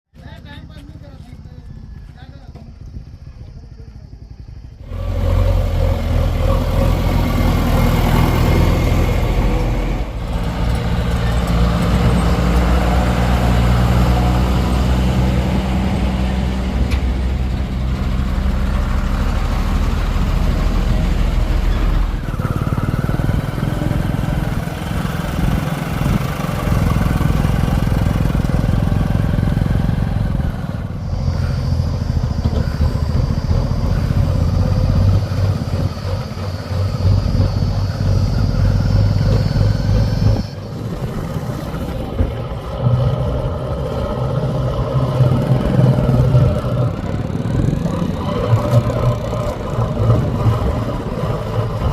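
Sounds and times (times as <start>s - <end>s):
heavy diesel machinery engine: 0.2s - 51.9s.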